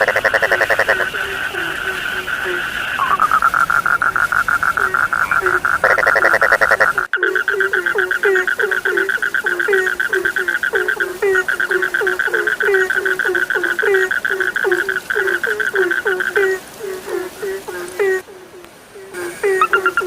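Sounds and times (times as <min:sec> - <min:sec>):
loud rattling frog call: 0:00.0 - 0:18.2, 0:19.1 - 0:20.0
frogs croaking: 0:00.0 - 0:20.0.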